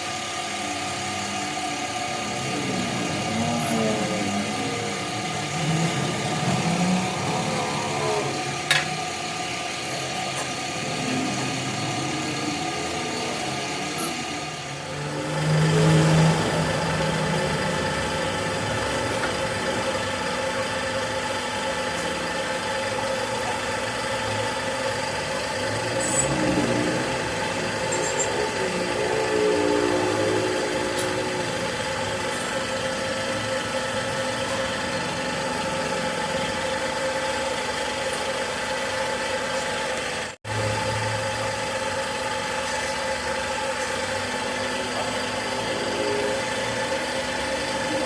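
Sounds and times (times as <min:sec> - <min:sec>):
motor humming and whining: 0:00.0 - 0:48.0.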